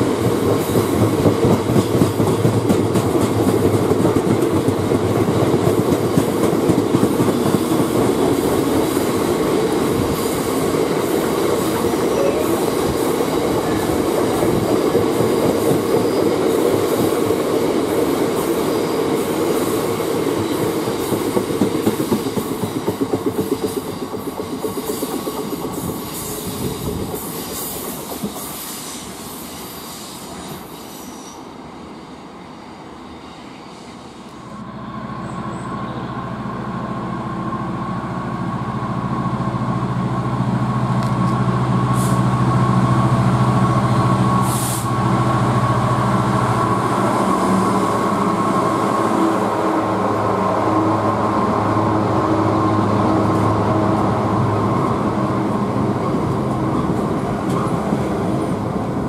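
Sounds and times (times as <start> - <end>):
train wagons rumbling on rails: 0.0 - 31.3, 34.2 - 59.0
diesel locomotive engine drone: 0.0 - 59.0
distant freight train: 0.0 - 59.0.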